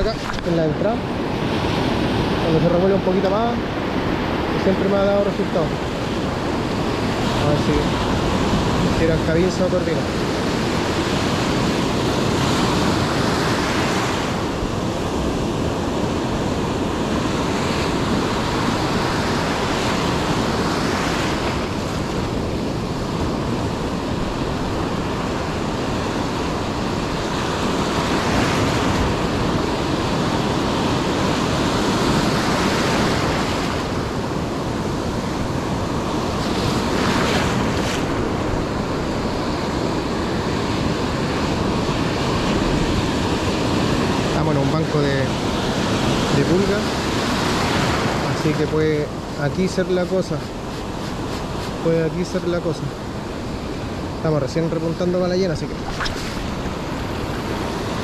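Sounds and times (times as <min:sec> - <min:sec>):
ocean surf breaking on beach: 0:00.0 - 0:58.0
wind on microphone: 0:00.0 - 0:58.0.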